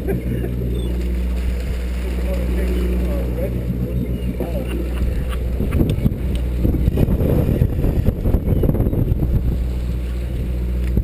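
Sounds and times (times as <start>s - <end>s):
boat engine humming: 0.0s - 11.0s
wind buffeting microphone: 1.5s - 11.0s.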